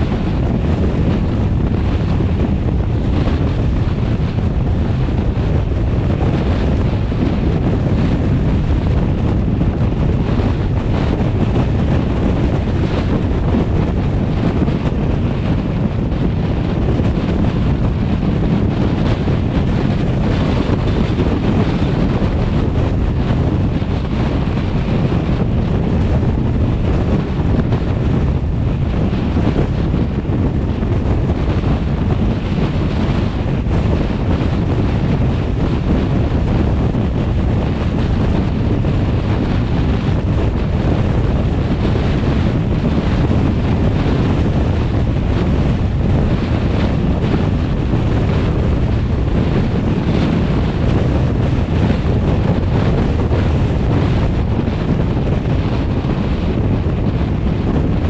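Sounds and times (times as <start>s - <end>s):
car road noise: 0.0s - 58.0s
wind buffeting microphone: 0.0s - 58.0s
wind rushing: 0.0s - 58.0s.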